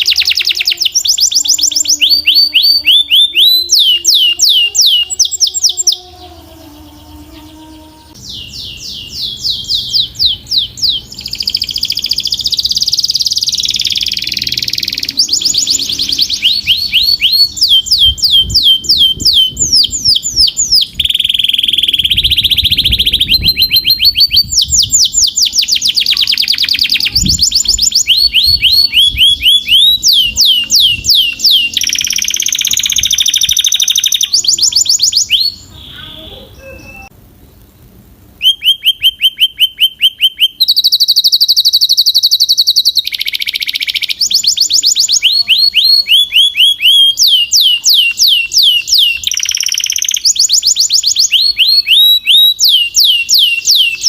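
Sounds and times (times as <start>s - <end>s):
canary singing trills: 0.0s - 37.6s, 38.4s - 54.0s.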